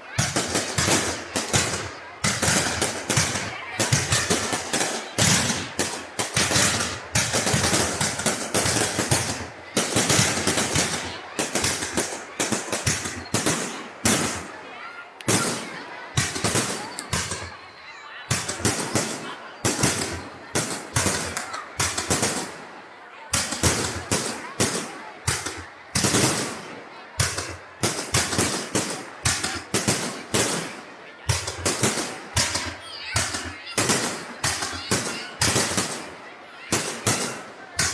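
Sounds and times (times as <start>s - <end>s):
fireworks crackling and popping: 0.2s - 14.5s, 15.2s - 17.6s, 18.3s - 22.6s, 23.3s - 37.9s.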